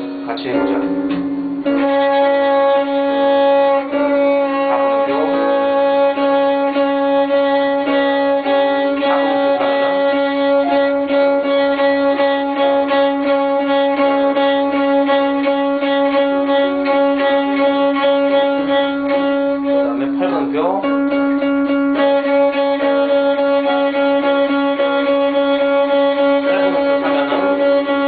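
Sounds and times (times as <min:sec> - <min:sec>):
bowed violin: 0:00.0 - 0:28.0.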